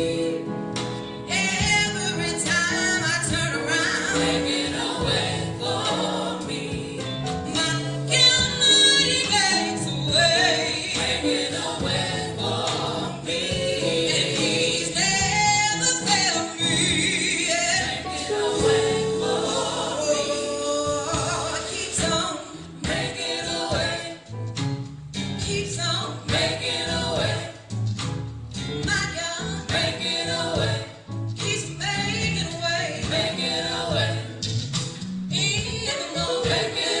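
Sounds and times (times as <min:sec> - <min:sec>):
vocal group singing gospel: 0:00.0 - 0:28.0, 0:28.9 - 0:37.0
low musical accompaniment: 0:00.0 - 0:37.0.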